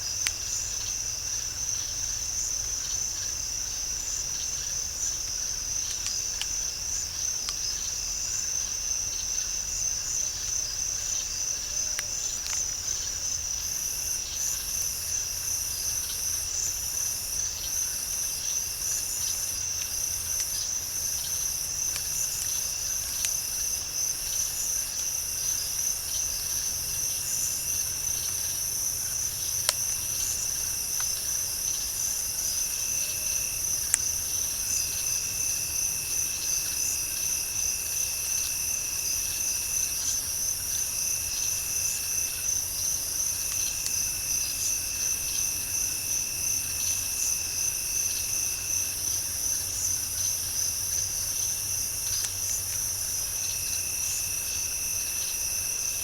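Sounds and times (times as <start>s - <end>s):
crickets trilling: 0.0s - 56.0s
insect pulsing call: 0.0s - 56.0s.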